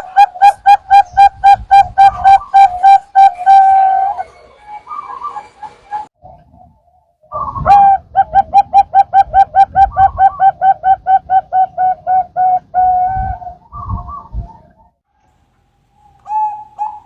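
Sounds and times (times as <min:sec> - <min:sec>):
dove cooing: 0:00.0 - 0:06.1, 0:07.3 - 0:14.7, 0:16.0 - 0:17.0.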